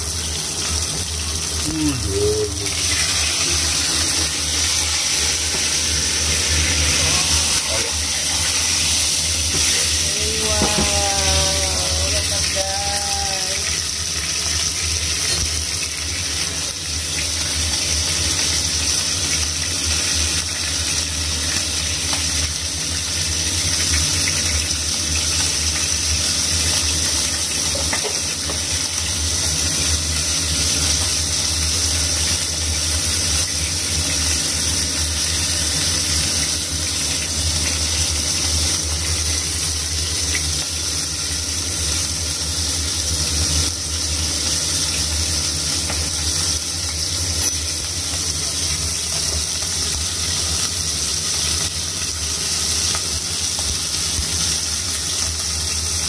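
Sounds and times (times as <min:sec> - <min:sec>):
steak sizzling in oil: 0:00.0 - 0:01.7, 0:02.6 - 0:56.0.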